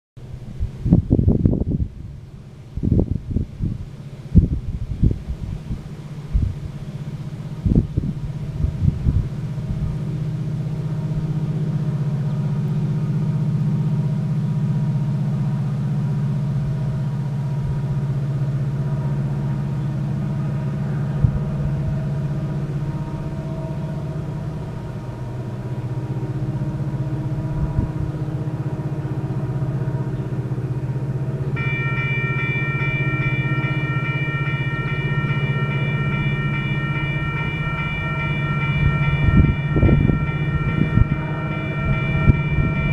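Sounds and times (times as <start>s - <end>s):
diesel locomotive engines rumbling: 0.2s - 42.9s
wind buffeting microphone: 0.2s - 42.9s
locomotive air horn chord: 5.8s - 42.9s.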